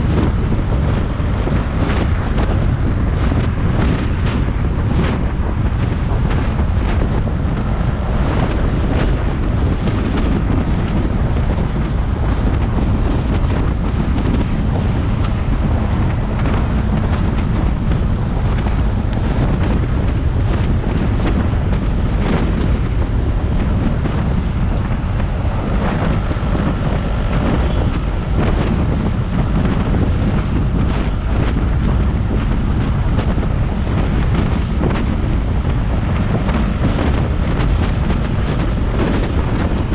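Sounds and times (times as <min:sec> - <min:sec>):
motorcycle engine: 0:00.0 - 0:39.9
road noise: 0:00.0 - 0:39.9
wind rushing over microphone: 0:00.0 - 0:39.9.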